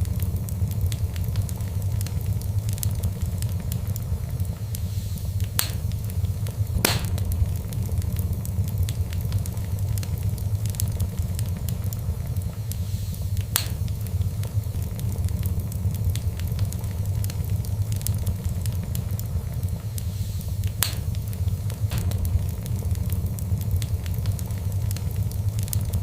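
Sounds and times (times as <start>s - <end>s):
fire crackling in a fireplace: 0.0s - 26.0s
fire popping: 0.0s - 26.0s.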